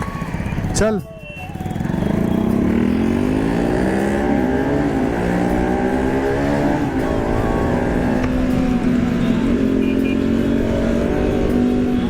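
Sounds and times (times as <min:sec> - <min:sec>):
motorcycle engine accelerating: 0:01.5 - 0:12.0.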